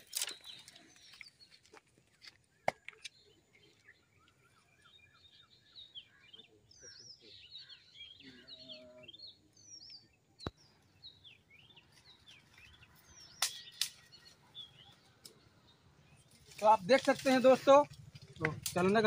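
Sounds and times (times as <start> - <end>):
faint outdoor background noise: 0.0 - 19.0
small birds chirping: 0.0 - 19.0.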